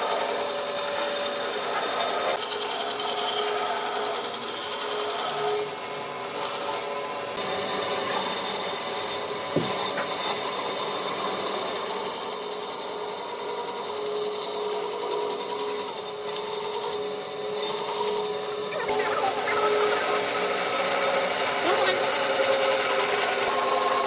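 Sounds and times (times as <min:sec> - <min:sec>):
power tool sanding wood: 0:00.0 - 0:24.0.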